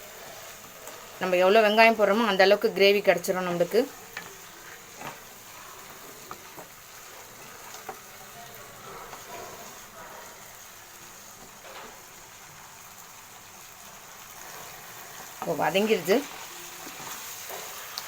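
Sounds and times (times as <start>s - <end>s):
chicken sizzling in a pan: 0.0s - 18.0s.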